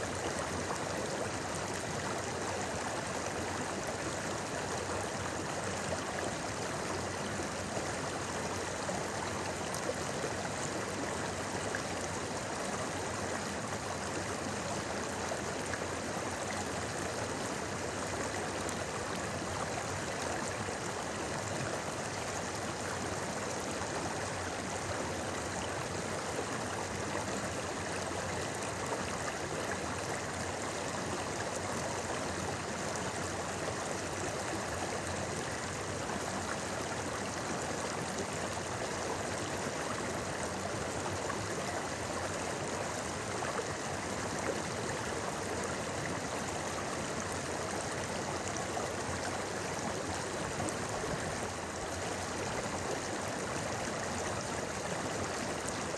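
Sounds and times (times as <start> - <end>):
stream burbling over stones: 0.0 - 55.9.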